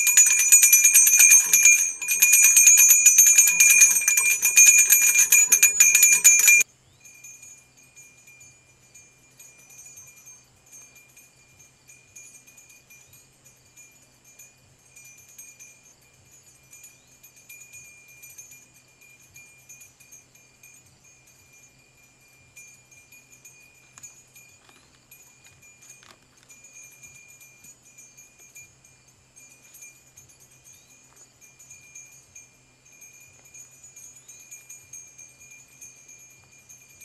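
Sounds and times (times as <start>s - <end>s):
small bell jangling: 0.0s - 37.0s.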